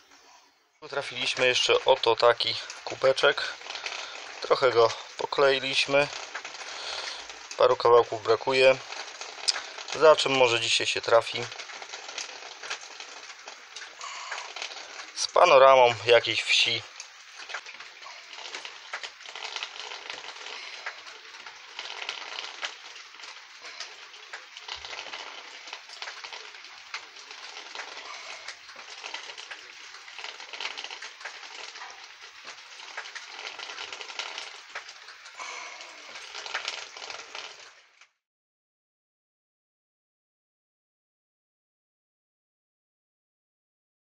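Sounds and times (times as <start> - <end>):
crackling hiss: 0.9 - 37.8.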